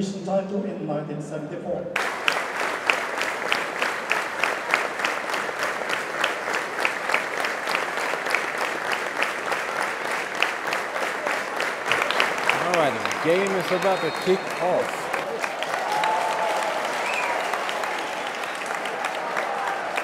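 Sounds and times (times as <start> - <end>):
hands clapping close by: 2.0 - 20.0
stadium crowd applauding: 2.0 - 20.0.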